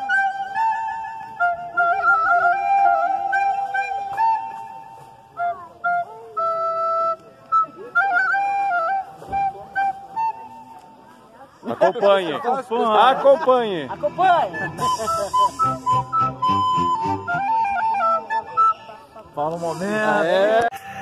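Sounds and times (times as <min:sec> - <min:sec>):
wooden flute melody: 0:00.0 - 0:13.3, 0:13.9 - 0:21.0.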